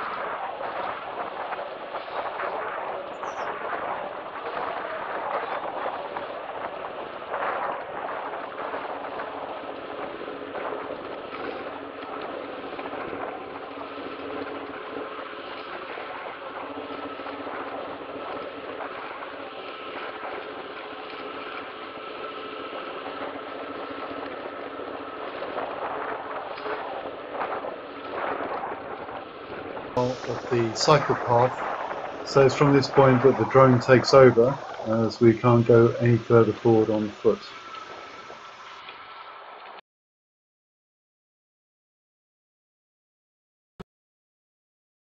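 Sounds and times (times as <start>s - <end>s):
rolling travel noise: 0.0s - 39.8s
wind on microphone: 0.0s - 39.8s.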